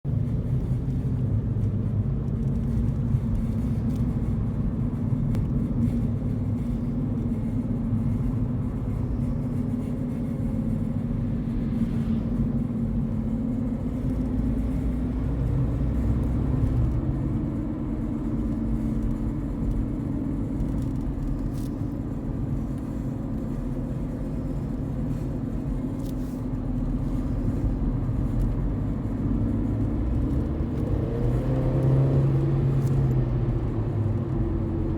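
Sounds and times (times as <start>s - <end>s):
low drone of wheel bearings: 0.2s - 34.9s.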